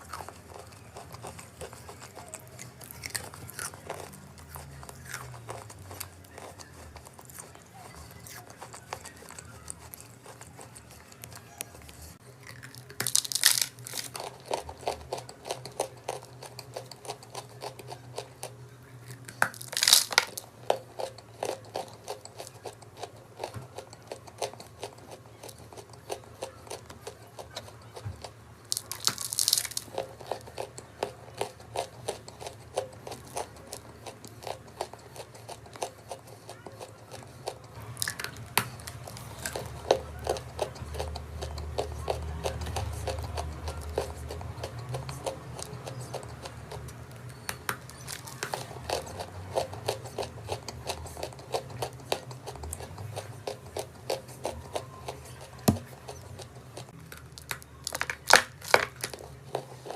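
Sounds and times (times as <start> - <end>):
chalk being crunched and chewed: 0.0 - 59.9.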